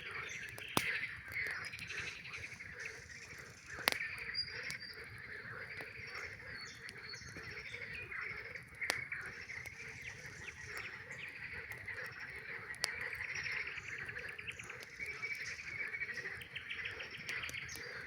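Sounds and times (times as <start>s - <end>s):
campfire crackling: 0.0s - 18.0s
campfire sharp pops: 0.0s - 18.0s
frogs calling: 0.0s - 18.0s.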